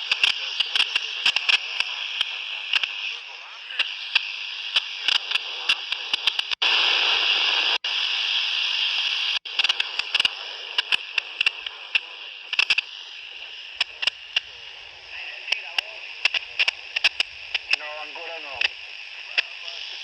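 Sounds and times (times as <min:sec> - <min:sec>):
loud rush of radio noise: 0:00.0 - 0:20.0
radio hiss: 0:00.0 - 0:20.0
sharp static crackles: 0:00.0 - 0:20.0.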